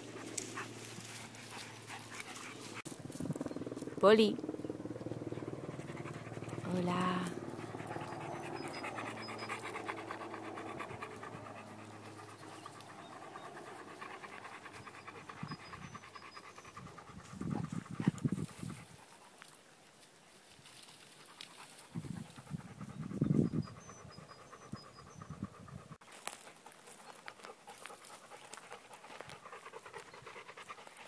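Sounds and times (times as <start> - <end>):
dog panting: 0.0 - 2.9, 5.0 - 19.6, 20.9 - 31.0.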